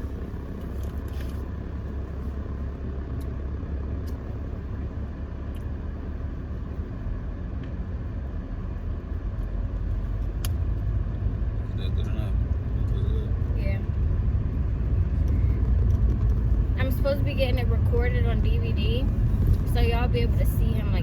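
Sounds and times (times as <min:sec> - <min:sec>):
car driving rumble inside cabin: 0:00.0 - 0:21.0.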